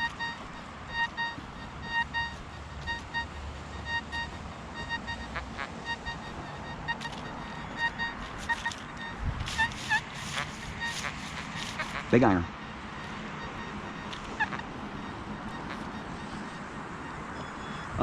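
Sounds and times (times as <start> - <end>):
metal detector beeping: 0.0 - 18.0.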